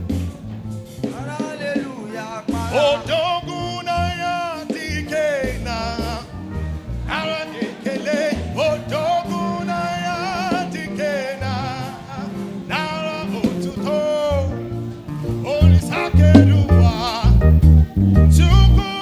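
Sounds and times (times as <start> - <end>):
gospel band playing: 0.0 - 19.0
person singing long notes: 1.2 - 17.4.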